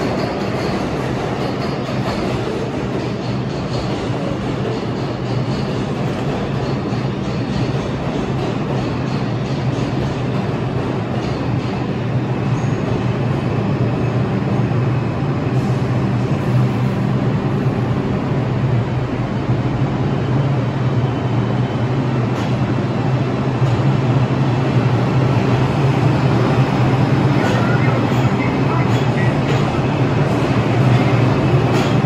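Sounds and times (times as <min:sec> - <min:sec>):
subway train running: 0:00.0 - 0:32.0.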